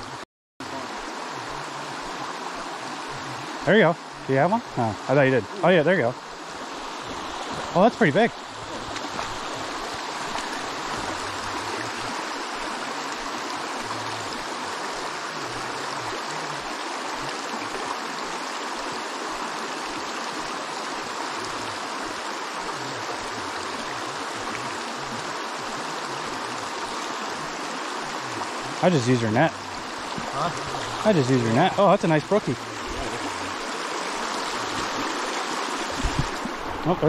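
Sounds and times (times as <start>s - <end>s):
creek flowing over stones: 0.0s - 37.0s.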